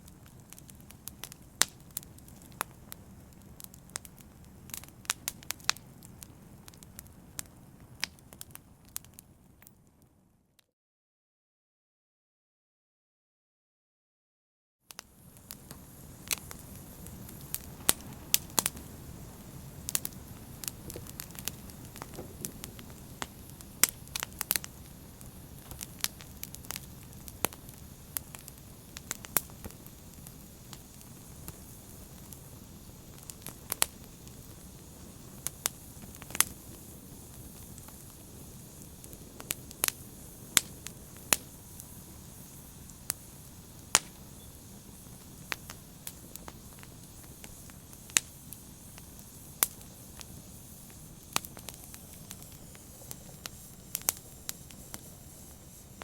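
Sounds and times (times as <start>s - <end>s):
fire pops and snaps: 0.0s - 9.9s, 14.9s - 56.0s
low rumble of burning: 0.0s - 10.3s, 14.9s - 56.0s.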